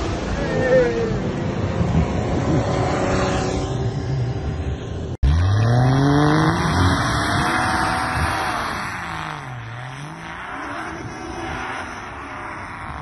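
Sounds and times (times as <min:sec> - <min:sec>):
suv engine revving: 0:01.5 - 0:13.0.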